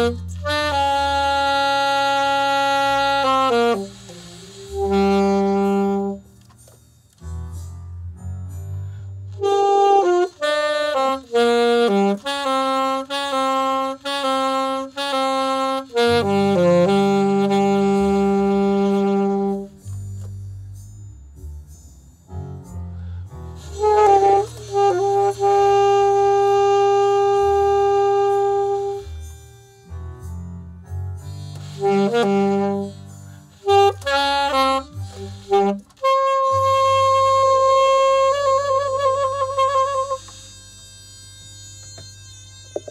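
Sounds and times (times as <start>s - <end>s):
alto saxophone melody: 0.0s - 6.7s, 9.3s - 20.3s, 23.6s - 30.3s, 31.2s - 42.9s
low backing accompaniment: 0.0s - 42.9s.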